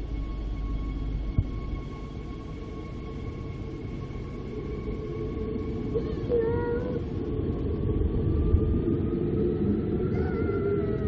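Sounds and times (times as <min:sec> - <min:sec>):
electric train whine: 0:00.0 - 0:11.0.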